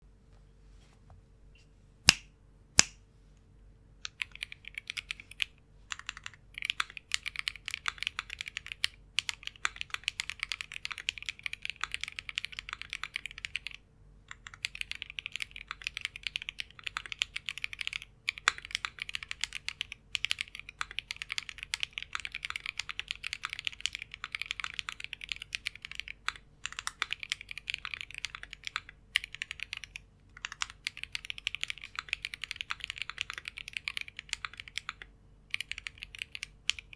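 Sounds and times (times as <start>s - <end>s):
mechanical keyboard typing: 4.0s - 36.9s.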